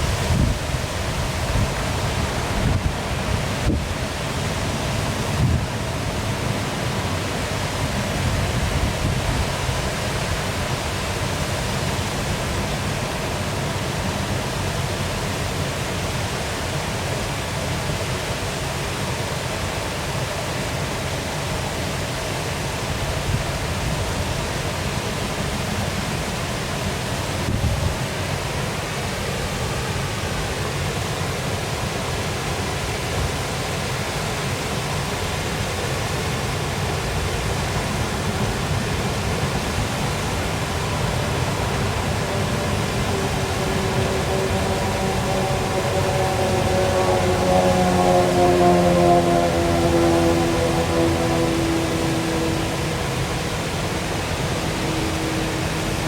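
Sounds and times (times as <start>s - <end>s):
waterfall pouring and splashing: 0.0s - 45.0s.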